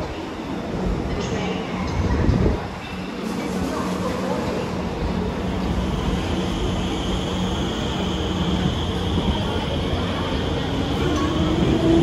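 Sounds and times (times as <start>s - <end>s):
rumble of moving train cars: 0.0s - 12.0s.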